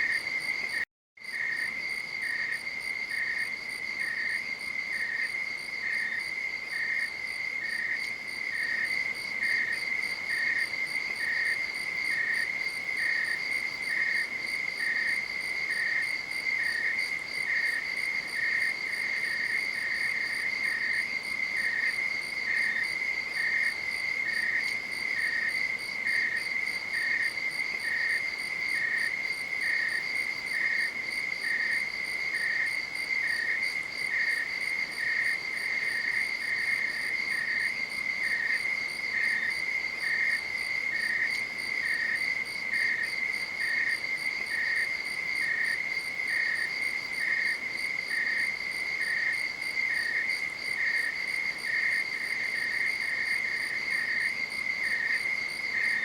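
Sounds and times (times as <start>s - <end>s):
crickets trilling: 0.0s - 56.0s
lower cricket chirp: 0.0s - 56.0s.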